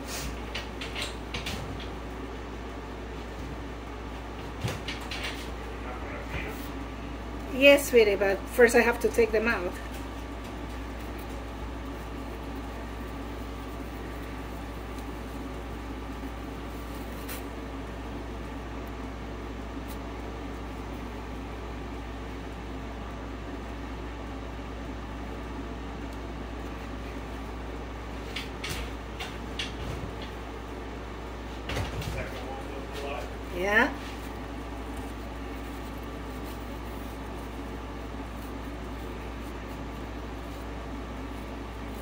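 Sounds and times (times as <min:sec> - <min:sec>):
low indoor hum: 0:00.0 - 0:42.0.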